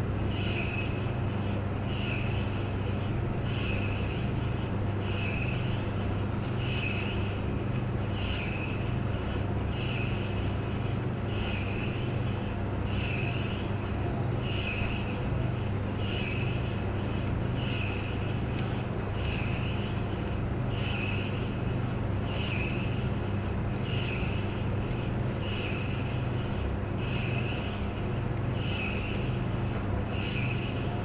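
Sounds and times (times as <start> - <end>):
clothes dryer humming: 0.0 - 31.0.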